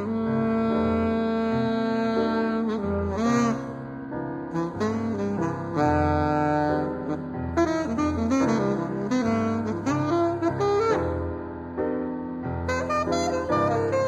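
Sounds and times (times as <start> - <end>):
jazz saxophone: 0.0 - 11.6, 12.5 - 14.0
low held piano notes: 0.0 - 14.0.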